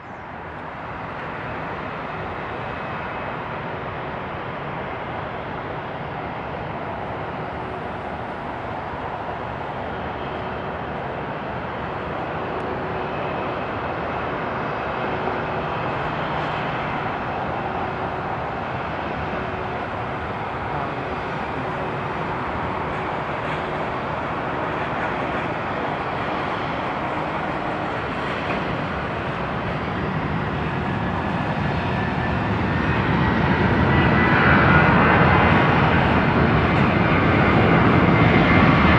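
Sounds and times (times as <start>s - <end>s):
jet engines running: 0.1s - 38.9s.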